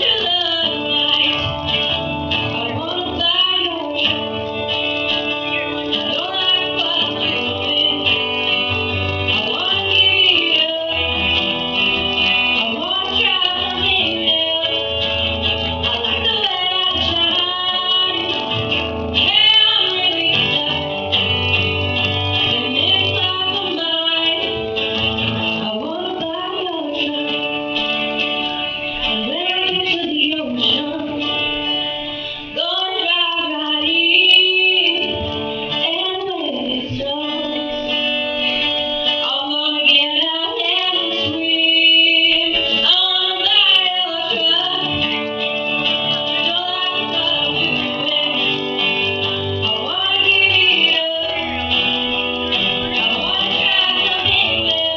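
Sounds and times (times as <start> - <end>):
strummed acoustic guitar: 0.0 - 54.9
woman singing folk-country song: 0.0 - 54.9.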